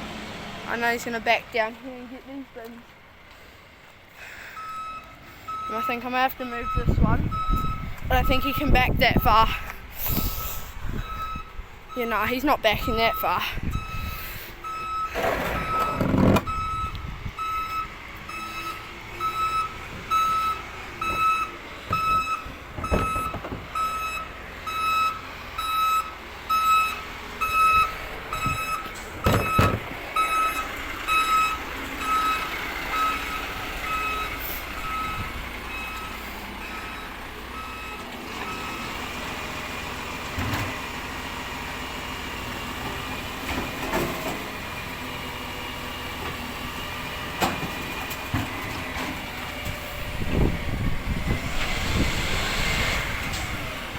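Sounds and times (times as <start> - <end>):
truck engine running: 0.0 - 53.9
truck back-up alarm beeping: 4.2 - 53.9.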